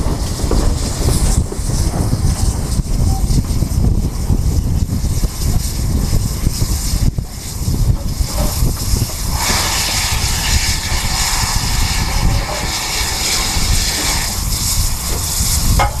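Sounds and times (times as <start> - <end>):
steady hiss: 0.0 - 16.0
train rumbling: 0.0 - 16.0
wind buffeting microphone: 0.0 - 16.0.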